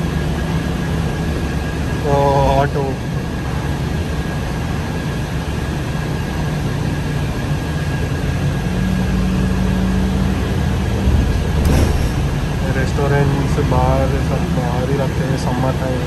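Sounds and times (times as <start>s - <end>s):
bus engine and road drone: 0.0s - 16.0s.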